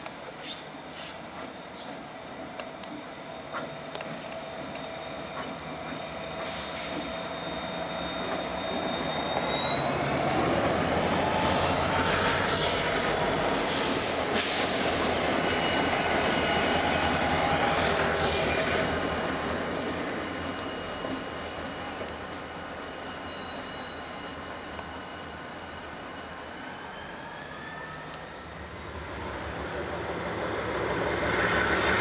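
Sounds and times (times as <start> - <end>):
high-pitched squeal: 4.5 - 32.0.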